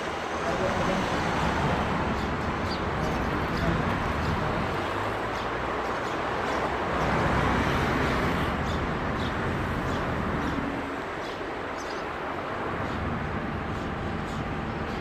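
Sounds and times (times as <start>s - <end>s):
traffic and street noise: 0.0s - 15.0s.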